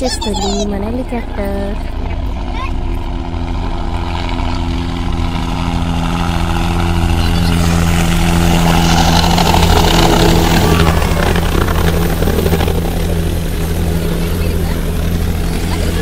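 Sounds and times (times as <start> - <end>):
helicopter rotor beat: 0.0 - 16.0.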